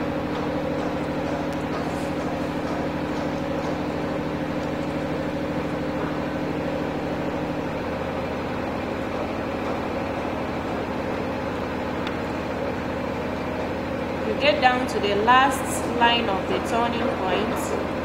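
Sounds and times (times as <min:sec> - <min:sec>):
machine drone with low throb: 0:00.0 - 0:18.0
steady hum: 0:00.0 - 0:18.0.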